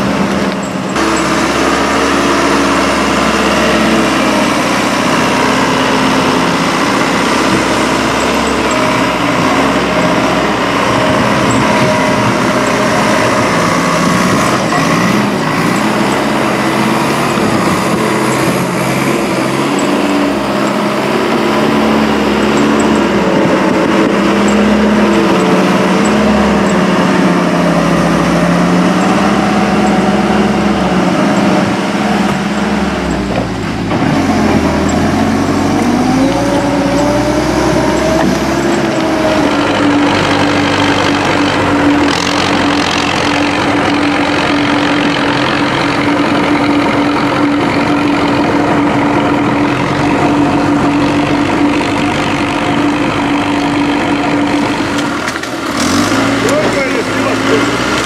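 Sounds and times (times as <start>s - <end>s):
heavy vehicle engine running: 0.0s - 58.0s.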